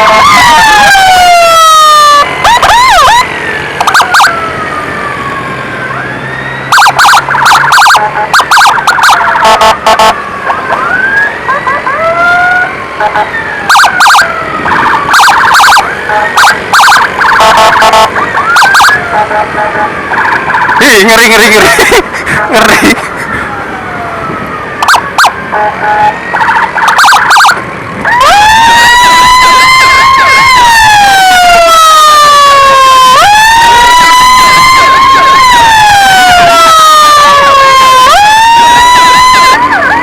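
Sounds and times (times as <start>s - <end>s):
ambulance electronic siren: 0.0s - 40.0s.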